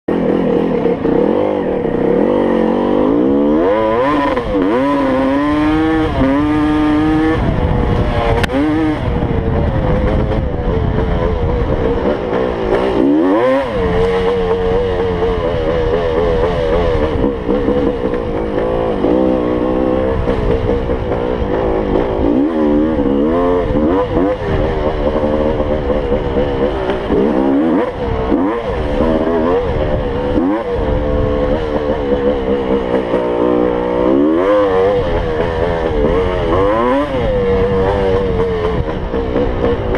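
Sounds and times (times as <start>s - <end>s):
two-stroke engine revving: 0.1s - 39.9s.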